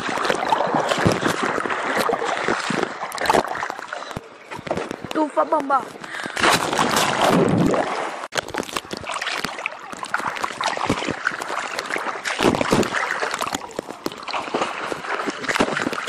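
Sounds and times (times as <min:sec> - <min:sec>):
person swimming in churning water: 0:00.0 - 0:05.1, 0:05.9 - 0:16.0
water splashing: 0:00.0 - 0:16.0.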